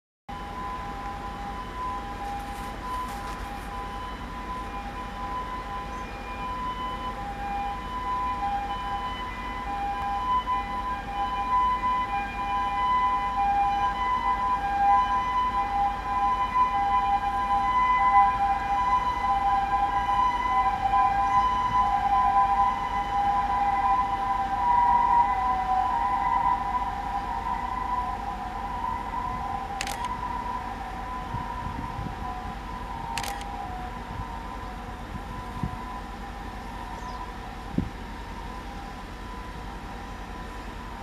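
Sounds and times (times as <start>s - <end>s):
diesel railcar idling rumble: 0.3s - 41.0s
level crossing warning bell: 0.3s - 41.0s.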